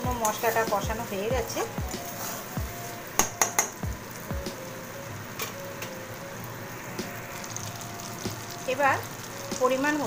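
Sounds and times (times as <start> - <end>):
paste sizzling in oil: 0.0 - 10.0.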